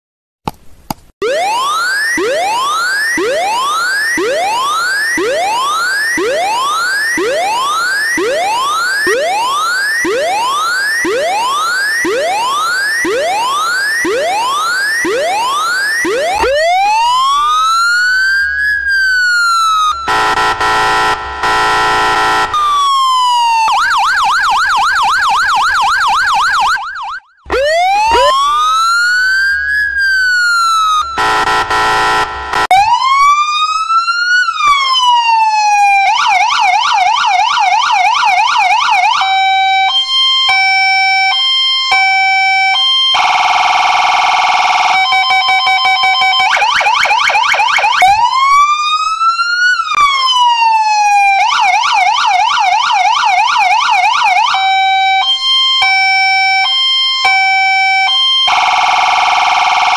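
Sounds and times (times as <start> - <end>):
emergency vehicle sirens: 1.2 - 59.9.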